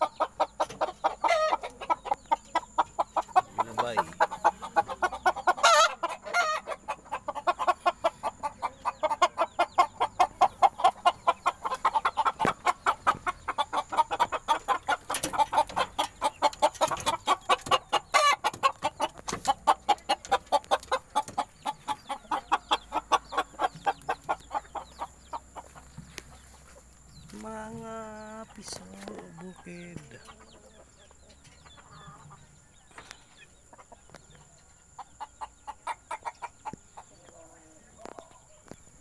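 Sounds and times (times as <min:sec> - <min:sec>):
chickens clucking: 0:00.0 - 0:39.0.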